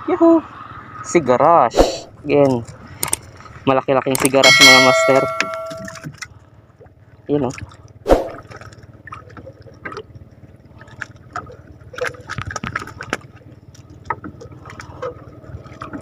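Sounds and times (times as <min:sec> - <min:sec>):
water lapping at hull: 0:02.0 - 0:16.0.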